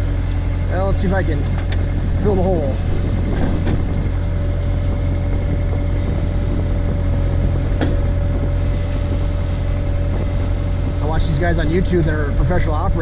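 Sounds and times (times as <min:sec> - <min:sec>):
backhoe engine running with whine: 0:00.0 - 0:13.0.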